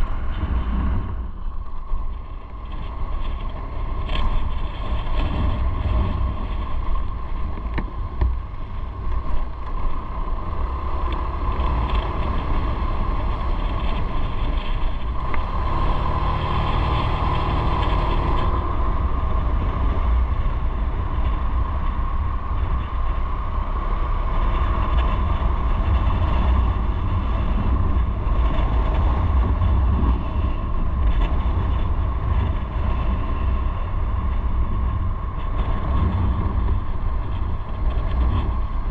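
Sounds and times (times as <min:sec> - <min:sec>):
motorcycle engine: 0:00.0 - 0:38.9
wind rumble on microphone: 0:00.0 - 0:38.9.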